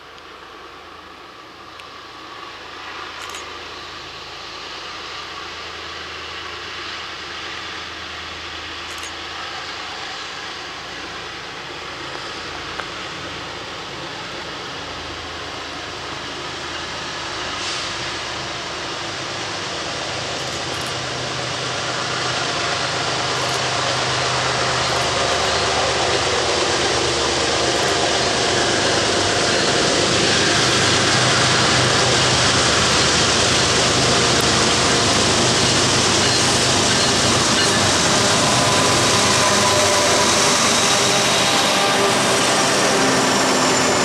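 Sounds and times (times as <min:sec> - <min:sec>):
diesel locomotive engine drone: 0:00.0 - 0:44.0
train wheels on rails: 0:00.0 - 0:44.0.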